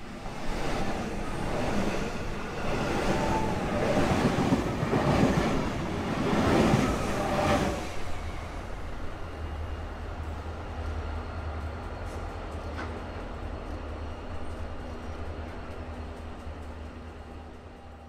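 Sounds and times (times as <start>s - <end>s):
electric train rumbling on rails: 0.0s - 18.0s.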